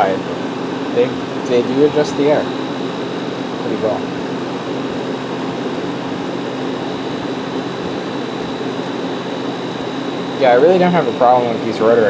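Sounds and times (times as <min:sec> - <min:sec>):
air conditioner fan rushing: 0:00.0 - 0:12.0
compressor humming: 0:00.0 - 0:12.0.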